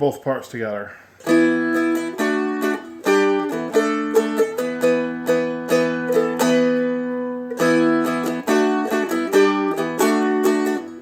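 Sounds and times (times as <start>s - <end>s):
small four-string instrument strummed: 1.2s - 11.0s.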